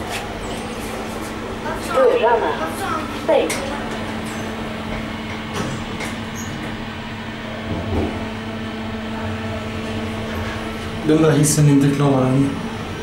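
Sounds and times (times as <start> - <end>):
elevator hum: 0.0 - 13.0
elevator ride rumble: 0.0 - 13.0.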